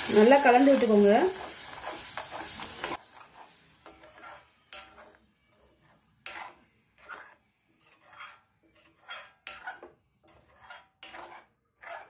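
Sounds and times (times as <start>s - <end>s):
steel spoon scraping a metal pan: 0.0s - 12.0s.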